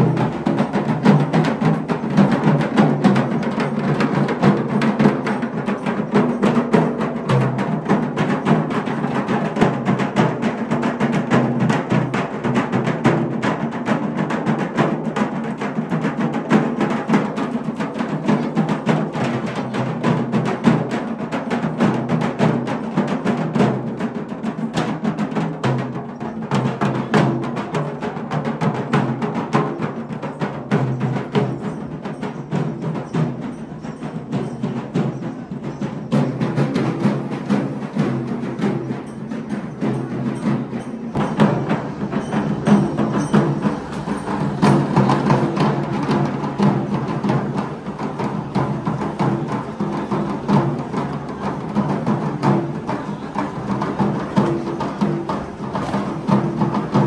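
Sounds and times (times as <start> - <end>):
barrel drums fast rhythm: 0.0 - 57.0.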